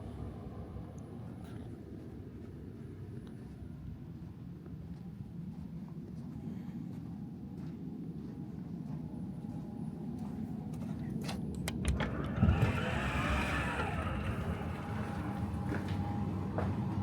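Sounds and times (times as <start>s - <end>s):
tram rumble: 0.0s - 17.0s.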